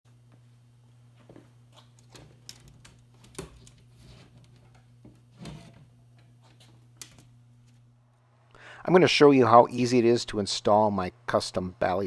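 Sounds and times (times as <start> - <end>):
low electrical hum: 0.1 - 12.0.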